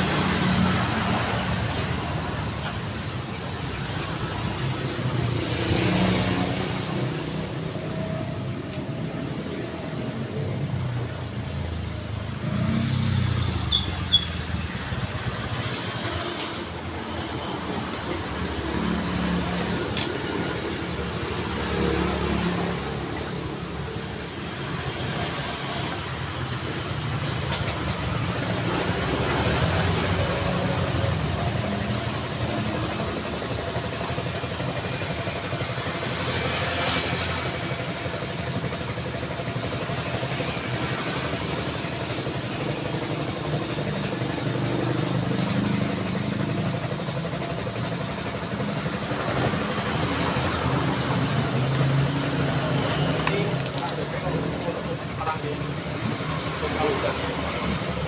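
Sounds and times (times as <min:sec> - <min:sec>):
cars and motorbikes passing: 0:00.0 - 0:58.0.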